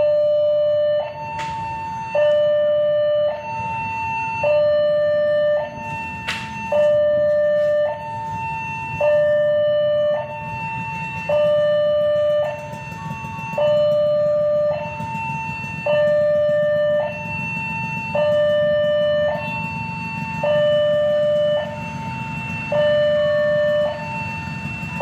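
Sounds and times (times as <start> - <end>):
two-tone electronic alarm: 0.0 - 25.0.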